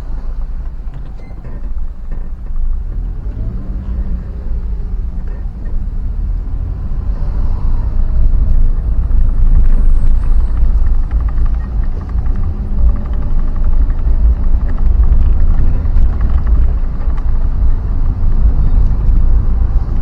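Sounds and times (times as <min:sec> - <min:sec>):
vehicle rumbling on road: 0:00.0 - 0:20.0.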